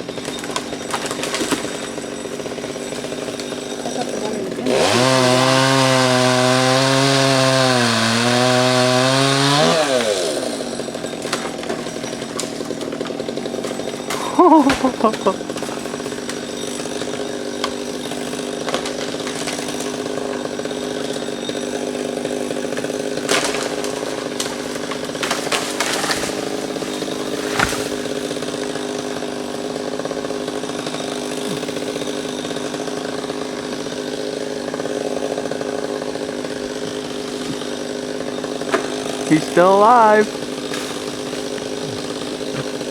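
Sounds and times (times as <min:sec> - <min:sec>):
chainsaw engine running: 0:00.0 - 0:42.9.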